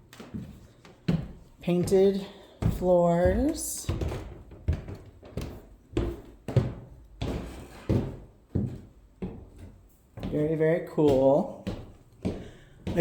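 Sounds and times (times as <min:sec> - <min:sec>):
footsteps on wooden floorboards: 0:00.0 - 0:13.0.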